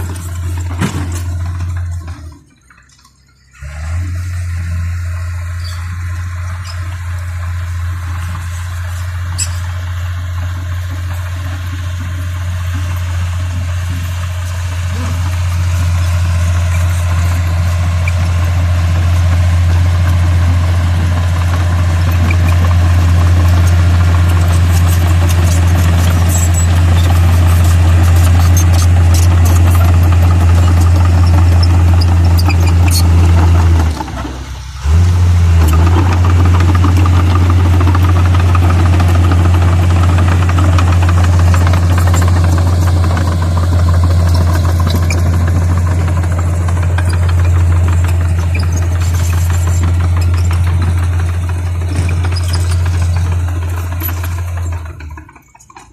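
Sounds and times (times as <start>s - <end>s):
bulldozer diesel engine droning: 0.0s - 55.9s.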